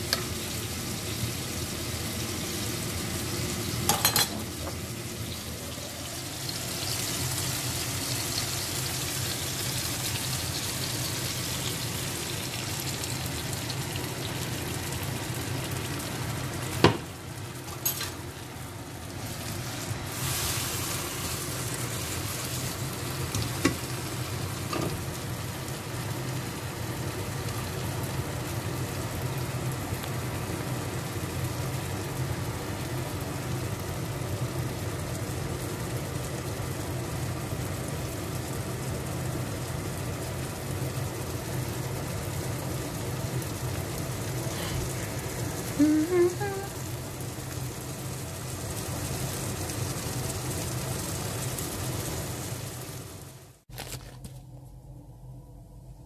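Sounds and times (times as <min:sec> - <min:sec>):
eggs sizzling in frying pan: 0:00.0 - 0:54.3.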